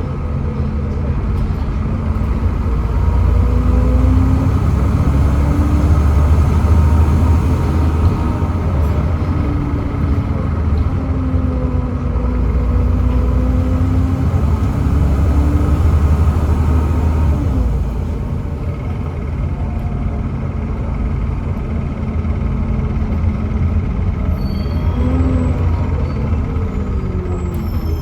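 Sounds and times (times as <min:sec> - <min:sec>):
bus diesel engine rumbling: 0:00.0 - 0:28.0
engine whine: 0:00.0 - 0:28.0.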